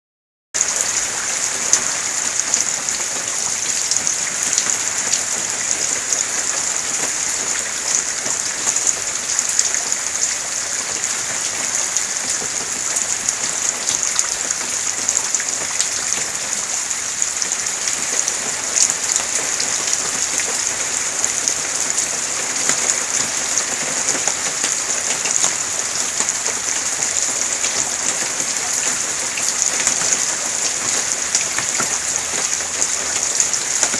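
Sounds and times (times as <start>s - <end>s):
steady rain falling: 0.6s - 33.9s.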